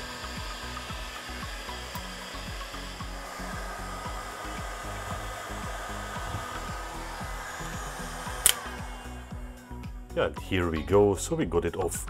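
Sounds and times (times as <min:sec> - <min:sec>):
hot air gun blowing: 0:00.0 - 0:10.2
background music with low beat: 0:00.0 - 0:12.0.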